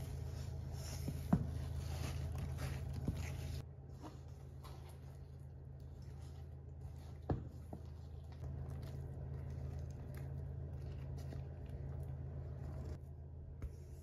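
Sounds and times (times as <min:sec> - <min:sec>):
batter squelching into pan: 0:00.0 - 0:13.0
steady low hum: 0:00.0 - 0:14.0.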